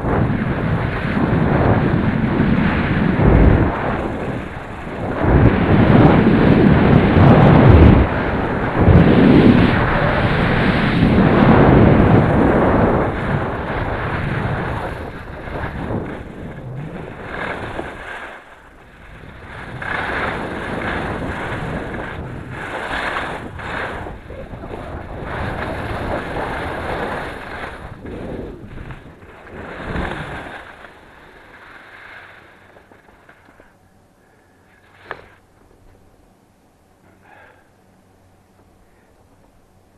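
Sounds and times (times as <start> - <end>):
wind over camera microphone: 0.0 - 33.7
skis scraping on packed snow: 0.0 - 33.8, 34.7 - 35.5.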